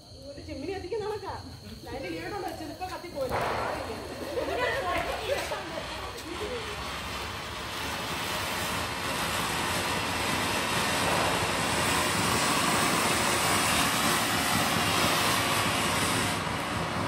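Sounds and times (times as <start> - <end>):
firework fountain hissing: 0.0 - 17.0.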